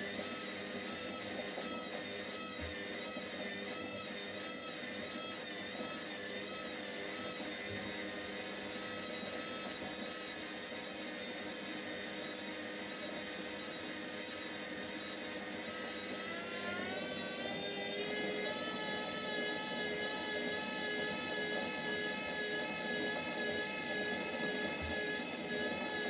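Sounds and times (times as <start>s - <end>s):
washing machine spin whine: 0.0s - 26.0s.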